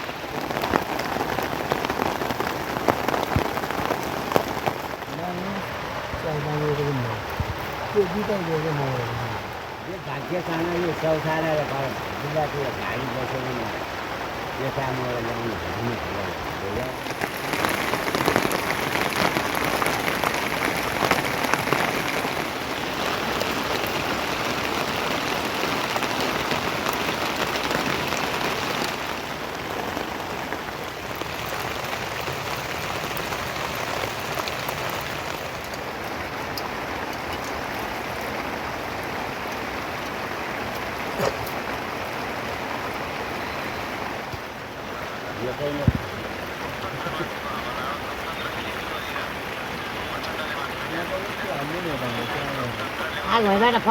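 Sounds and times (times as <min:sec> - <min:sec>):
raindrops ticking on surfaces: 0:00.0 - 0:53.9
steady rain falling: 0:00.0 - 0:53.9.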